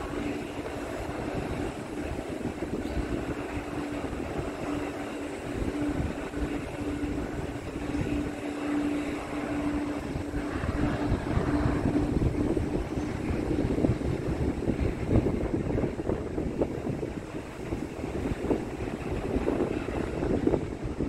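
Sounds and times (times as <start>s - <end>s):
aircraft engine humming: 0.0s - 21.0s.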